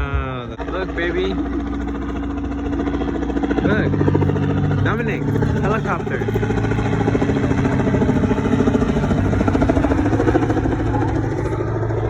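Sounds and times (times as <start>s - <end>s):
helicopter flying close by: 0.0s - 12.0s.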